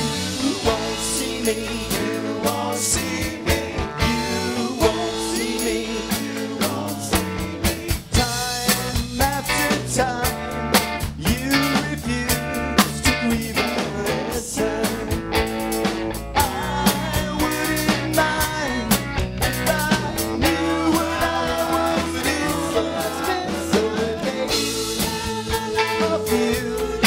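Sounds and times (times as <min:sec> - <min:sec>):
person singing: 0:00.0 - 0:15.5, 0:16.4 - 0:27.0
rock band playing: 0:00.0 - 0:27.0.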